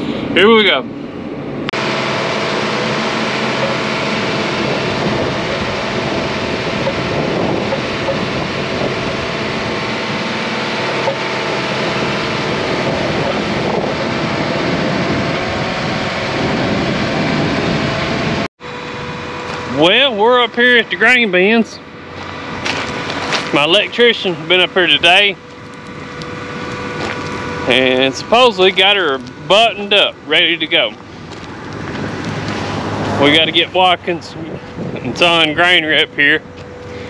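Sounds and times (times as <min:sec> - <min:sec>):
wind noise: 0:00.0 - 0:19.8, 0:21.9 - 0:37.0
machine engine hum: 0:00.0 - 0:37.0.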